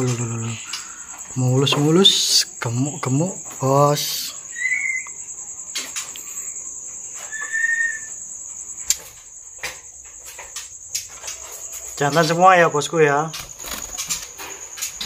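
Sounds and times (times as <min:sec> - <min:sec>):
birds rustling and fluttering: 0:00.0 - 0:15.0
cricket trill: 0:00.0 - 0:15.0.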